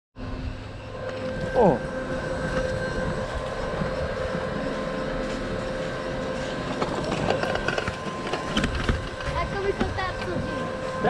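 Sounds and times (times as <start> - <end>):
ski lift mechanical rumble: 0.2 - 11.0.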